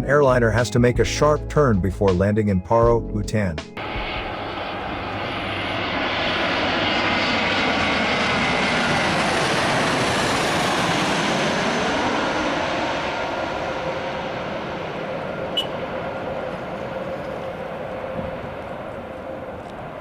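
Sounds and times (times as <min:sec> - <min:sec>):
jet engines on landing approach: 0:03.8 - 0:20.0.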